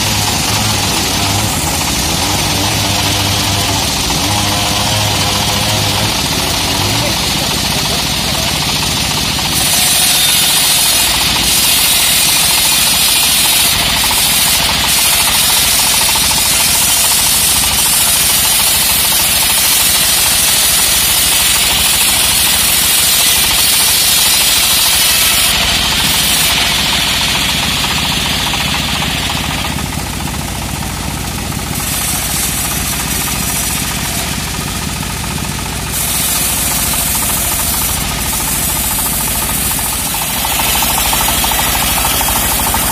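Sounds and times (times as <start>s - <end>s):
bandsaw mill running: 0.0s - 42.9s
saw blade cutting wood: 0.0s - 42.9s.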